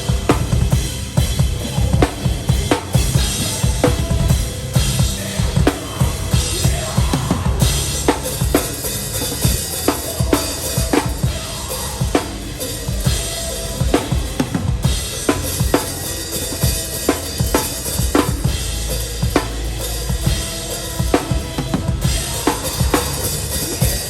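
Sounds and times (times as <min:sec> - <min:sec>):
crashing cymbals: 0:00.0 - 0:24.0
metal band playing: 0:00.0 - 0:24.0.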